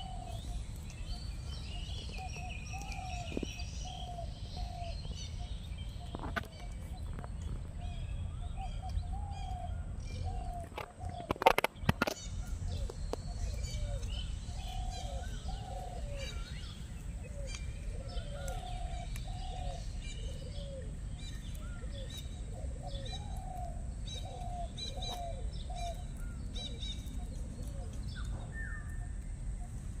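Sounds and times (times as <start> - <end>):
birds calling: 0.0 - 30.0.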